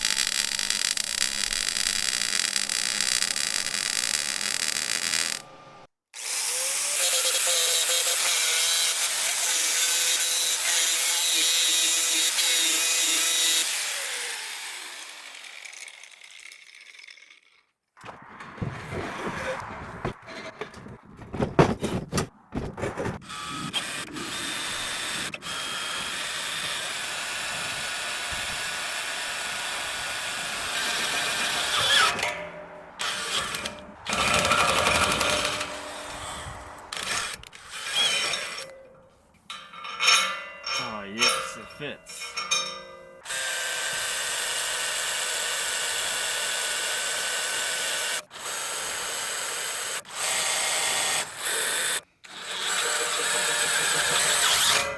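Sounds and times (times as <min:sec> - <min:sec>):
power drill boring through steel: 0:00.0 - 0:05.5, 0:06.2 - 0:17.7, 0:23.3 - 0:32.4, 0:33.0 - 0:38.8, 0:39.8 - 0:54.9.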